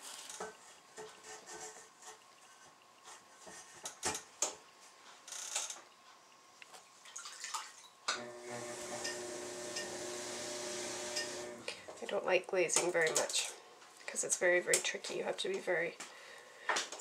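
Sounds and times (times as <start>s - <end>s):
steady hum with hiss: 0.0s - 17.0s.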